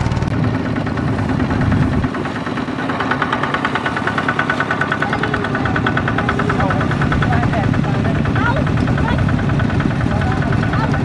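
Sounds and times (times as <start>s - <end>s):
diesel engine knocking: 0.0s - 11.0s
low engine rumble: 0.0s - 11.0s.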